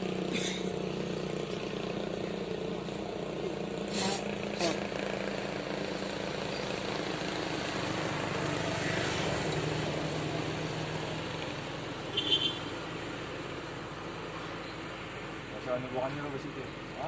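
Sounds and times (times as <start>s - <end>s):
vehicle passing on road: 0.0s - 17.0s.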